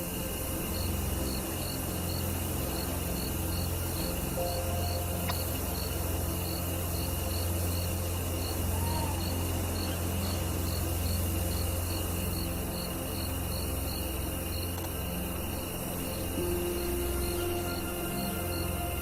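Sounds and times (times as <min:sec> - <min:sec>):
low steady drone: 0:00.0 - 0:19.0
cricket chirping: 0:00.1 - 0:19.0.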